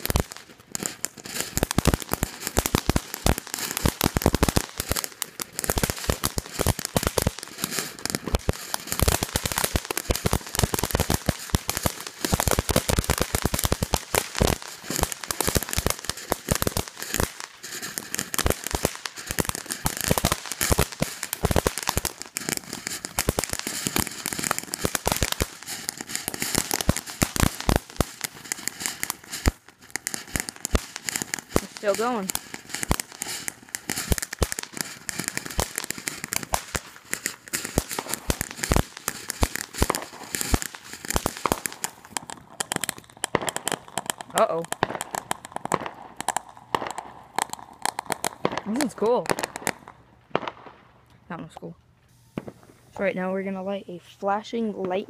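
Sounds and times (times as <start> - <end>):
firework crackling: 0.0 - 55.0.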